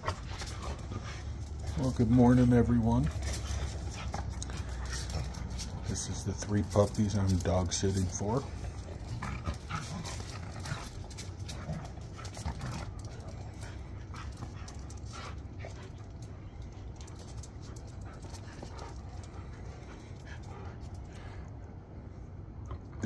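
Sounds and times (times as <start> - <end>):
dogs panting: 0.0 - 22.1.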